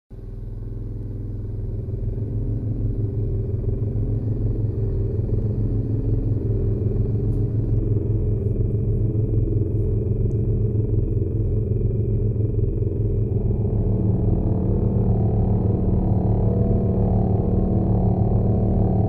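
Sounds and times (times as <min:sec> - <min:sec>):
low droning soundtrack music: 0:00.2 - 0:19.0.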